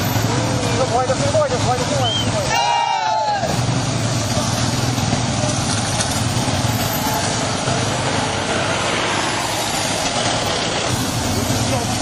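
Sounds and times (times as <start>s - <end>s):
motorcycles riding past: 0.0s - 12.0s.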